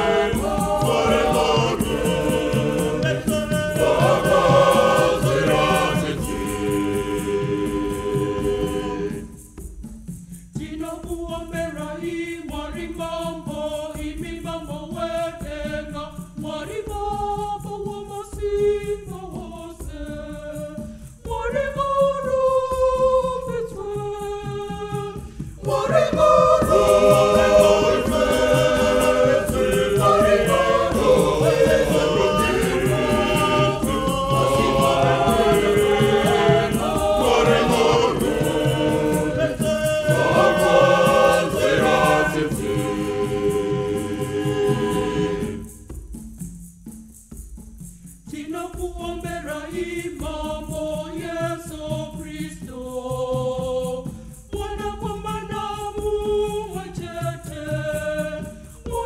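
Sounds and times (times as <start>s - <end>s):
choir singing a hymn: 0.0s - 9.7s, 10.6s - 45.9s, 48.3s - 59.0s.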